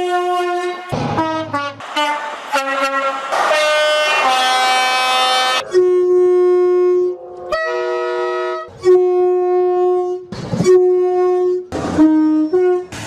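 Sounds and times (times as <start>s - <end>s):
two-tone train air horn blasts: 0.0s - 13.0s.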